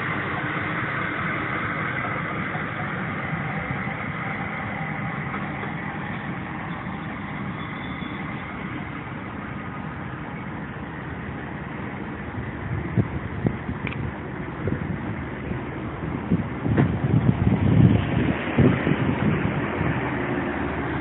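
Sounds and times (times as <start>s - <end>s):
diesel train engine and rail rumble: 0.0s - 21.0s.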